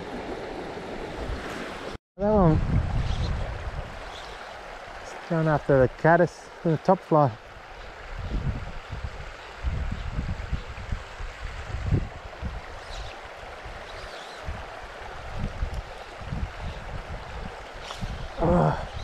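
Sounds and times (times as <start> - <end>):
river water over rocks: 0.0 - 2.0, 3.3 - 19.0.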